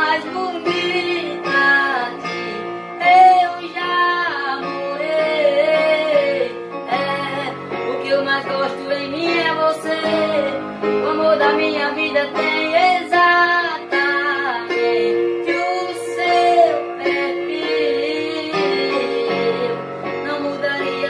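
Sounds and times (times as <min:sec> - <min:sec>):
boy singing: 0:00.0 - 0:21.0
electronic keyboard accompaniment: 0:00.0 - 0:21.0.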